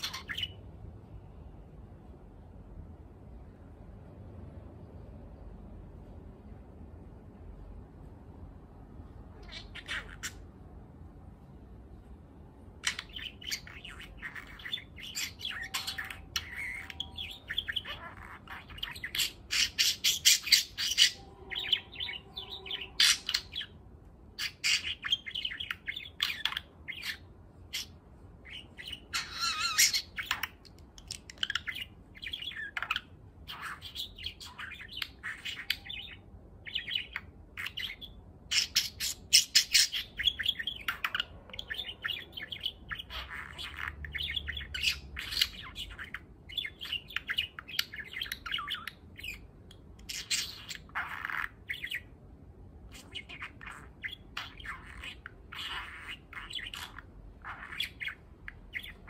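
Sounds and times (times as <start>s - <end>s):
budgerigar chirping and warbling: 0.0s - 0.7s, 9.2s - 10.6s, 12.8s - 59.0s.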